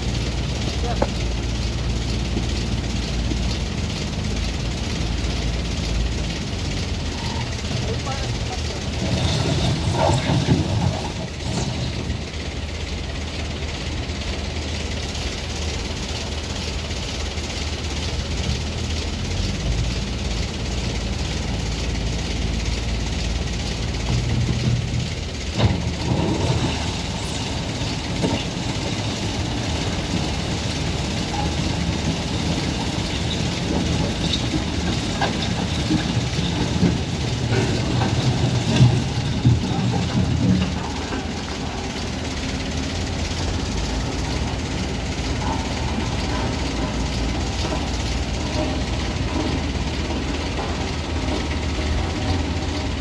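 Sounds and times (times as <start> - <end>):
heavy vehicle engines running: 0.0 - 53.0.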